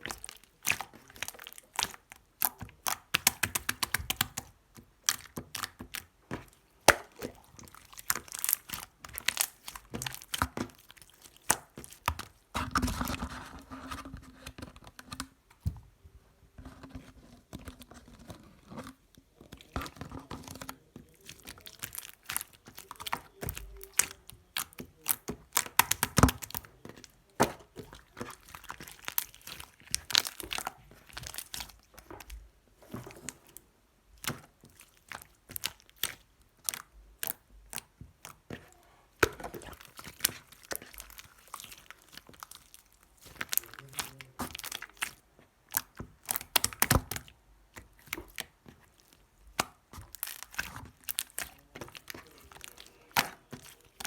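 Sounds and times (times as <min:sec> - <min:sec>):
slime squishing with sticky pops: 0:00.0 - 0:15.8, 0:16.6 - 0:54.0.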